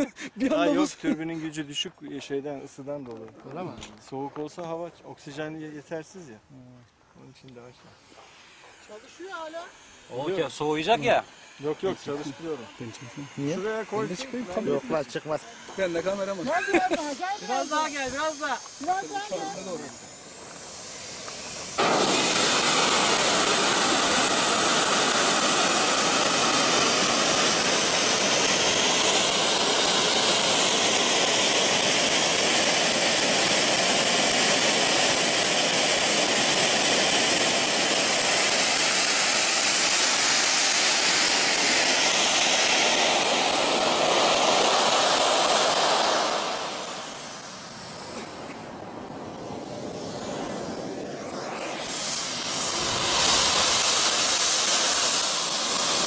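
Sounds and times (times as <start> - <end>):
model jet turbine roaring and whining: 7.9 - 56.0.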